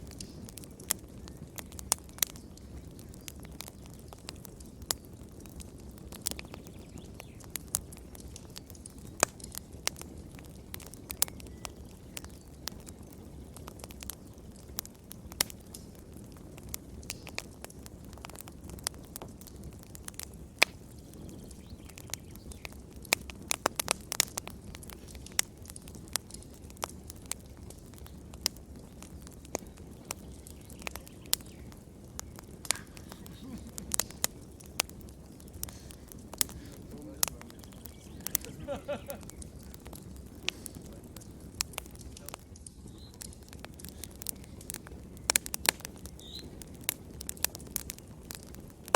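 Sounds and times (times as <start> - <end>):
fire popping and snapping: 0.0 - 48.9
low rumble of flame: 0.0 - 48.9.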